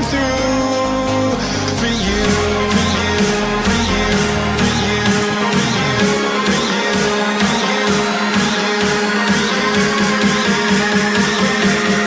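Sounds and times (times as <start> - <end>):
instrumental music with fast beat: 0.0 - 12.0.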